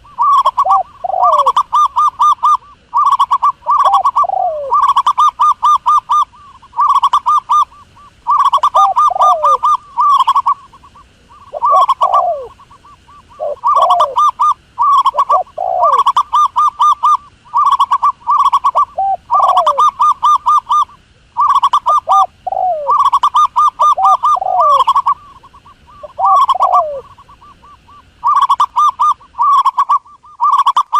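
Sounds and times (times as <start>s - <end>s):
dove cooing: 0.0s - 30.9s.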